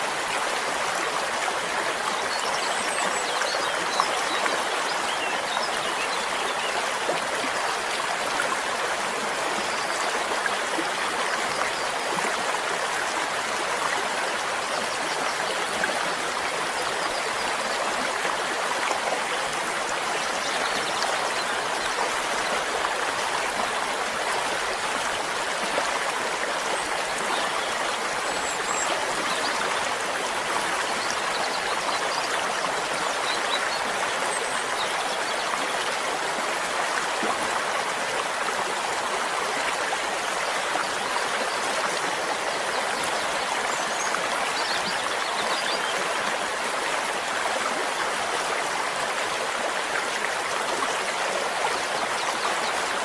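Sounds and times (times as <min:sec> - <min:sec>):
stream water babbling: 0:00.0 - 0:53.0.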